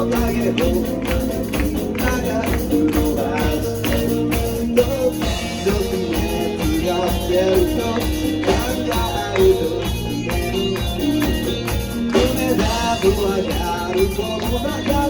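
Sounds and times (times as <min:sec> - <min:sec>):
drum kit: 0:00.0 - 0:15.0
guitar: 0:00.0 - 0:15.0
rock song with singing: 0:00.0 - 0:15.0.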